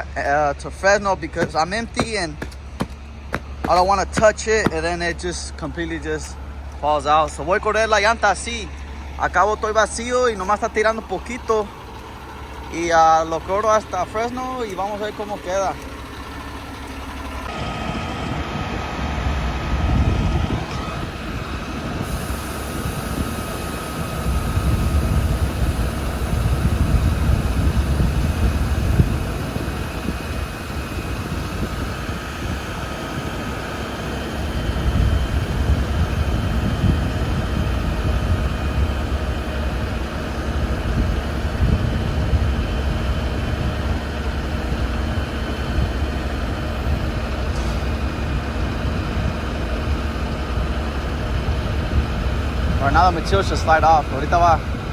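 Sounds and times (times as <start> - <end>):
diesel truck engine rumbling: 0.0 - 54.9.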